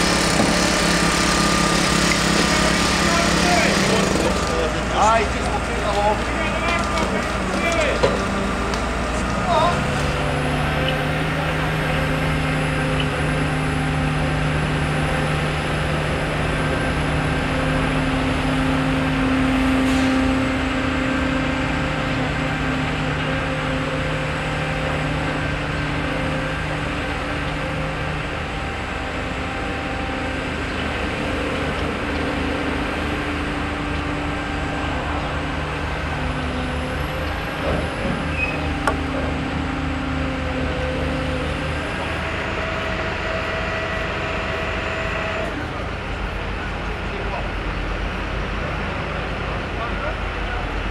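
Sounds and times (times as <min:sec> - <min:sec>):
heavy diesel engines droning: 0:00.0 - 0:50.9.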